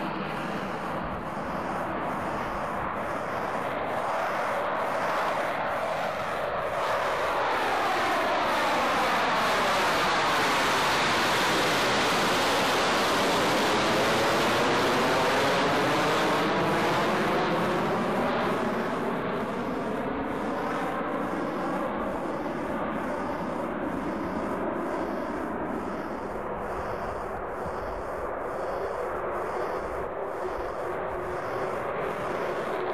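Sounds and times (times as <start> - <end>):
jet engines roaring overhead: 0.0 - 32.9.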